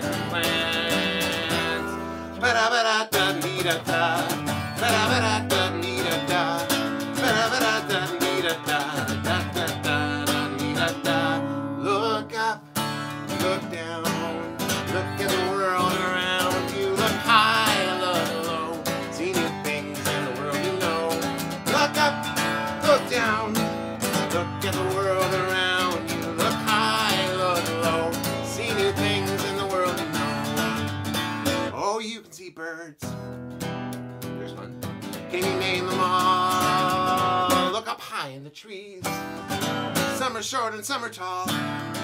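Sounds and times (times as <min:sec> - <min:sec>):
acoustic guitar strumming: 0:00.0 - 0:31.9, 0:33.0 - 0:38.2, 0:39.0 - 0:42.0
man singing: 0:00.0 - 0:33.4, 0:34.4 - 0:42.0.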